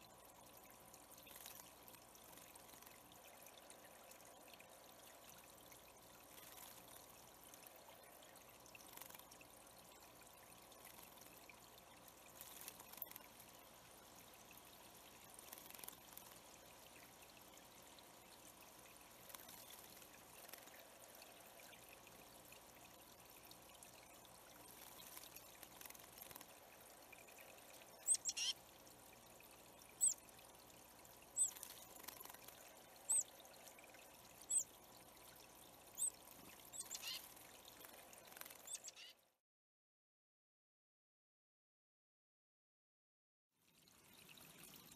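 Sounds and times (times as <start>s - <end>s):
water trickling into pond: 0.0s - 39.4s, 43.5s - 44.9s.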